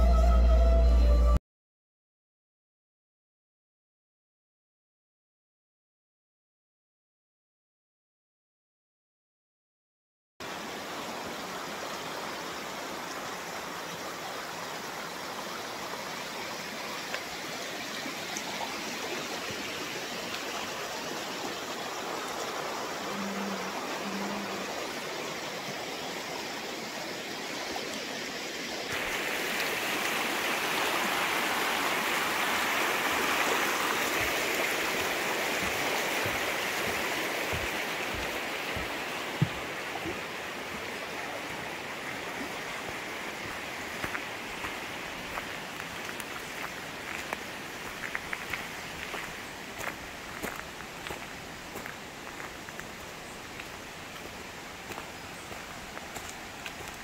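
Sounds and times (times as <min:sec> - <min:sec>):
stream running over rocks: 0:10.4 - 0:57.0.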